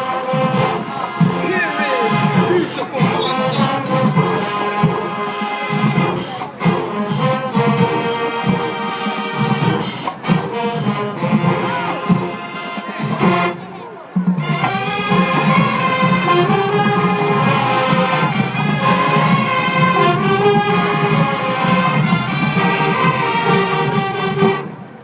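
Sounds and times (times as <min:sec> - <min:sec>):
brass section: 0:00.0 - 0:25.0
drumline: 0:00.0 - 0:25.0.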